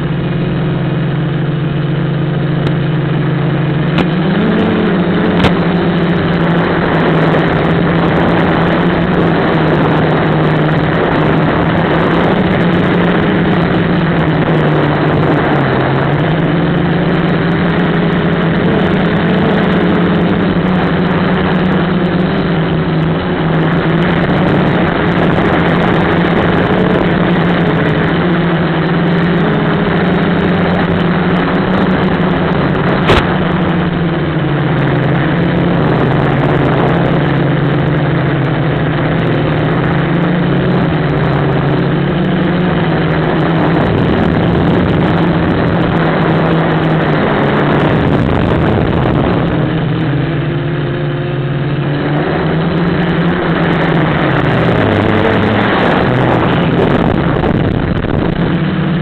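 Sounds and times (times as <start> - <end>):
drone propellers buzzing: 0.0 - 59.0
rush of air noise: 0.0 - 59.0.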